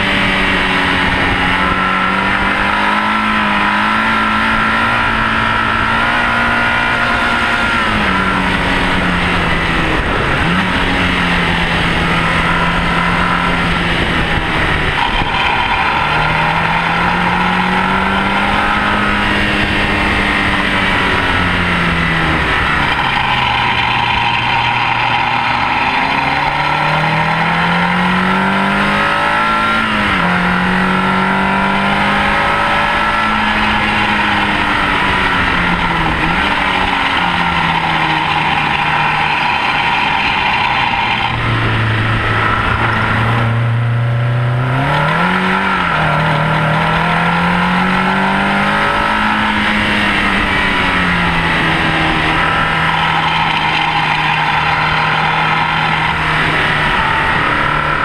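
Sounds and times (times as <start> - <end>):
racing car engine revving: 0.0 - 58.0
wind and tyre noise: 0.0 - 58.0.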